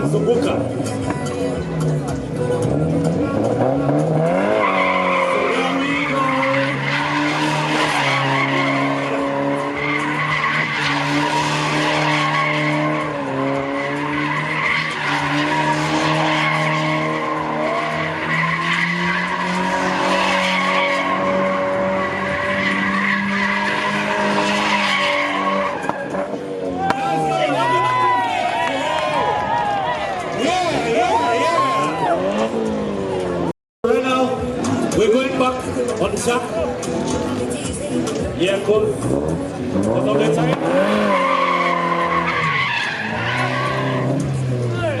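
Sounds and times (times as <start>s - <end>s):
car engine at high revs: 0.0s - 29.1s, 34.3s - 45.0s.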